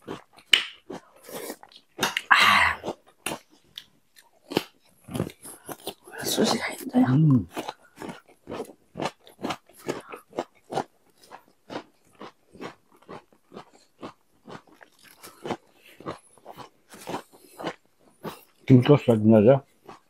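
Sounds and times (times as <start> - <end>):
crunchy food chewing: 0.0 - 19.0, 19.6 - 20.0.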